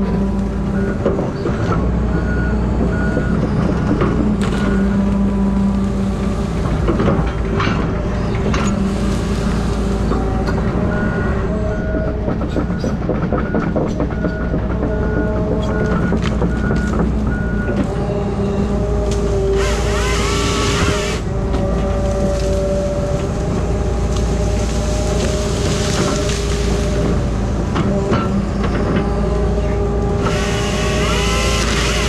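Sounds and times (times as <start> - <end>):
heavy equipment engine running: 0.0 - 32.0.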